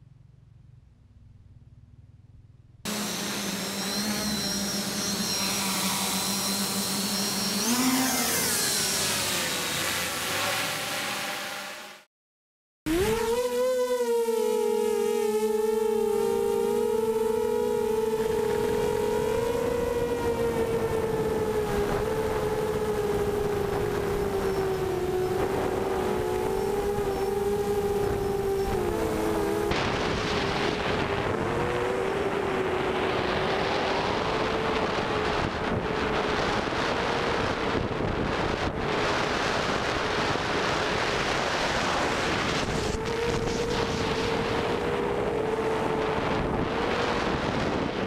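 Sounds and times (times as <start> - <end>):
quadcopter motors whining: 2.9 - 12.1, 12.9 - 48.0.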